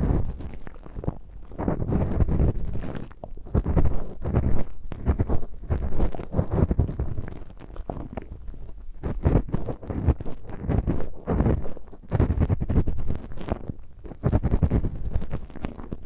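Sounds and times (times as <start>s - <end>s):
ear pick scraping microphone: 0.0s - 16.0s.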